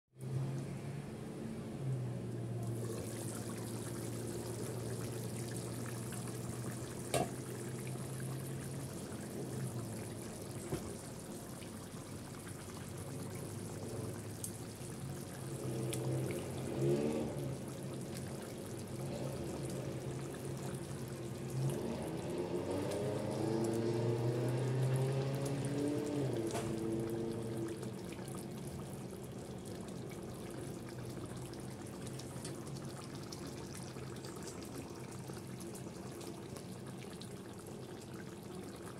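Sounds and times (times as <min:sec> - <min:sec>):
curry bubbling in a pan: 0:02.5 - 0:38.9.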